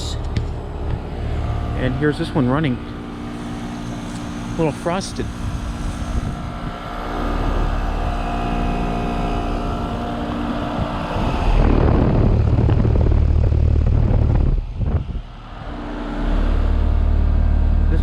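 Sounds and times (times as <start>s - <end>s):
heat pump humming: 0.0s - 18.0s
low rumble: 0.0s - 18.0s.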